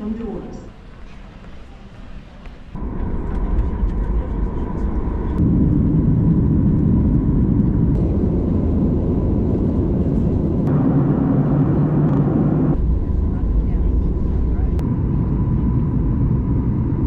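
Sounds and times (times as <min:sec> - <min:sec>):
vehicle rumble: 0:00.8 - 0:17.0.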